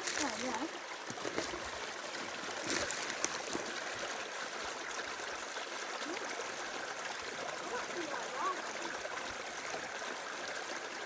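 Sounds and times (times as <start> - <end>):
stream babbling: 0.0 - 11.0.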